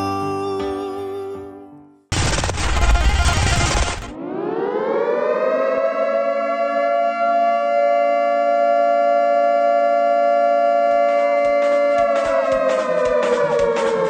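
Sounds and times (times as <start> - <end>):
siren-like electronic tone: 2.2 - 14.0.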